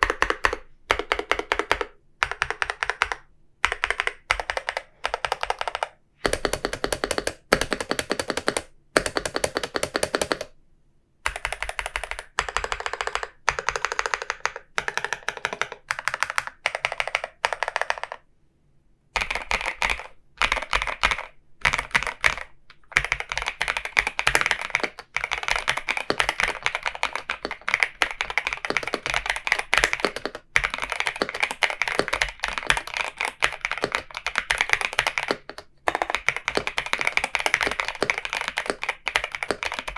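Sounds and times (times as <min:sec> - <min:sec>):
mechanical keyboard typing: 0:00.0 - 0:10.6, 0:11.3 - 0:18.3, 0:19.2 - 0:39.9.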